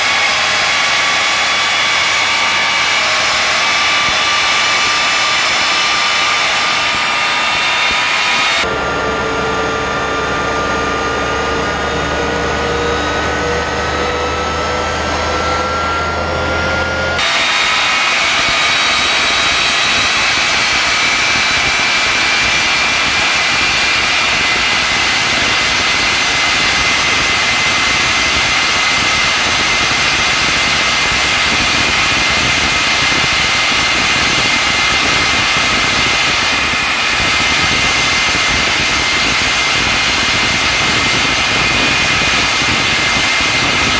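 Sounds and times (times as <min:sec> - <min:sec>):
high whine: 0:00.0 - 0:43.9
turbojet engine running: 0:00.0 - 0:43.9.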